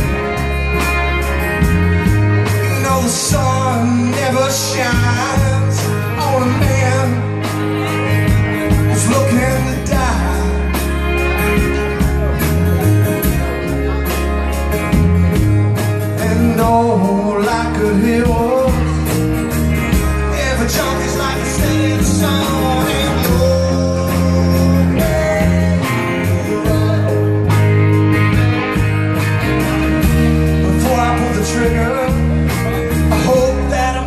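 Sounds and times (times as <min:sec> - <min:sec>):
bass line: 0:00.0 - 0:34.0
electric and acoustic guitars: 0:00.0 - 0:34.0.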